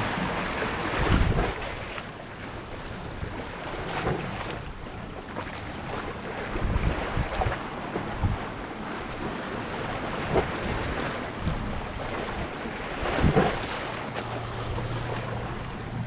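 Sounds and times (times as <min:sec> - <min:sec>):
wind buffeting microphone: 0:00.0 - 0:01.9, 0:02.8 - 0:16.0
sea surf washing: 0:00.0 - 0:16.0.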